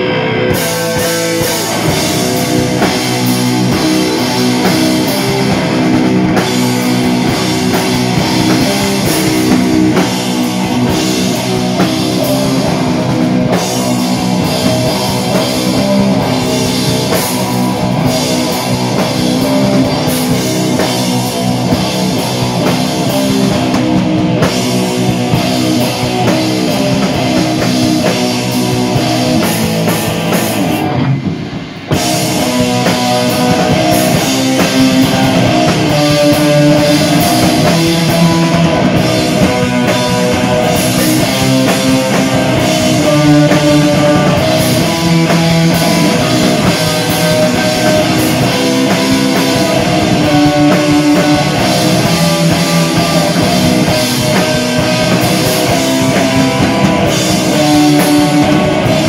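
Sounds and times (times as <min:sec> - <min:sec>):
drum kit and cymbals: 0:00.0 - 0:59.0
electric guitars playing a riff: 0:00.0 - 0:59.0.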